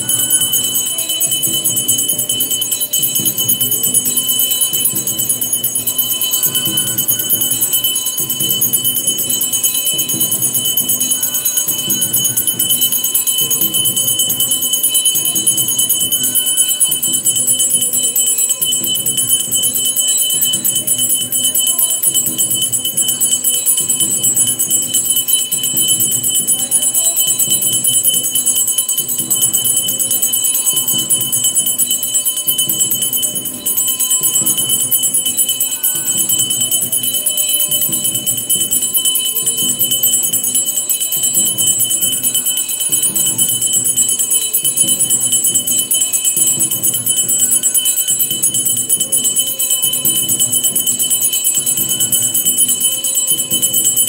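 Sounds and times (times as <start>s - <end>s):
bells ringing rapidly: 0.0s - 54.0s.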